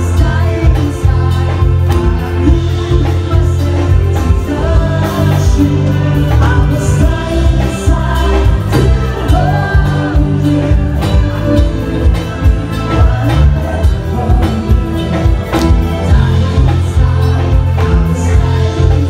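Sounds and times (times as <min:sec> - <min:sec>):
electric guitar: 0:00.0 - 0:19.0
heavy bass line: 0:00.0 - 0:19.0
keyboard: 0:00.0 - 0:19.0
people singing: 0:00.0 - 0:19.0
steady drum beat: 0:00.0 - 0:19.0.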